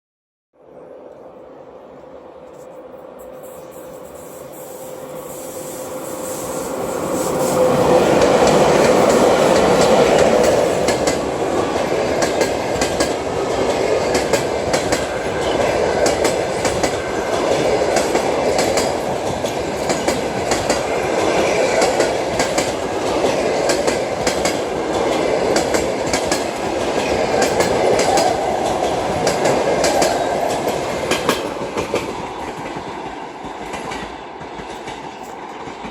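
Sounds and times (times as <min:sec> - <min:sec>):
electric train passing: 0:00.6 - 0:35.9.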